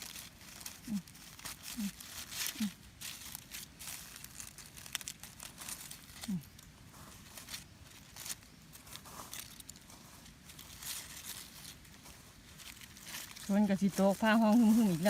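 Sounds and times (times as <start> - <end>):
dry leaves rustling and crinkling: 0.0 - 15.0.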